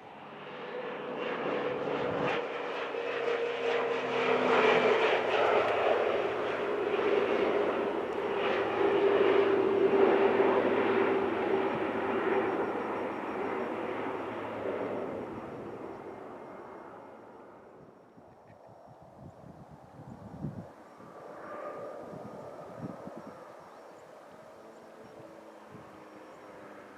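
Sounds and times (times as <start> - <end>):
propeller plane passing low: 0.0 - 26.9.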